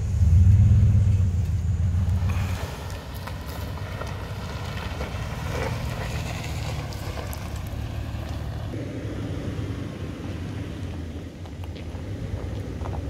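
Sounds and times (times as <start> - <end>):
engine low rumble: 0.0 - 13.0.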